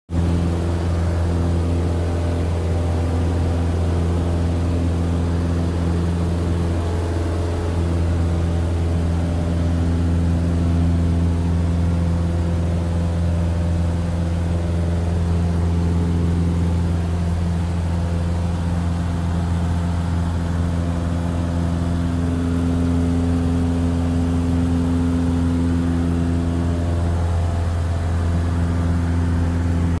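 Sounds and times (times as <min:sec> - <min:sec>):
propeller plane engine droning: 0:00.1 - 0:30.0.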